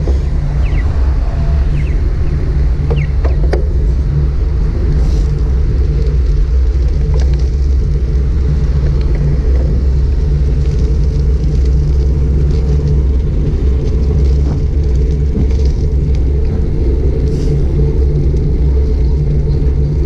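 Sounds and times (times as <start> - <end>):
faint bike ticks and rattles: 0.0 - 20.0
wind buffeting microphone: 0.0 - 20.0.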